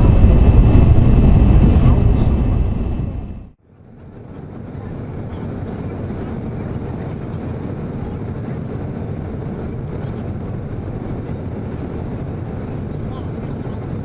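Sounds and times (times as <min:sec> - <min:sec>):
jet cabin airflow and engine rush: 0:00.0 - 0:14.0.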